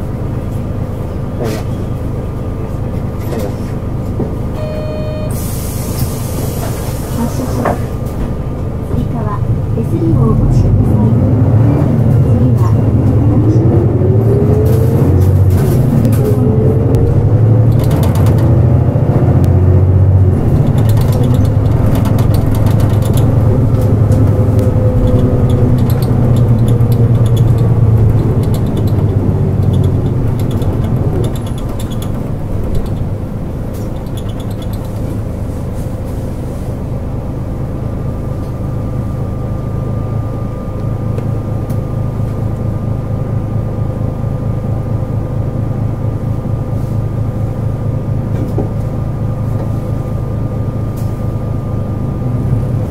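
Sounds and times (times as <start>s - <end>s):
bus diesel engine whining: 0.0s - 52.9s.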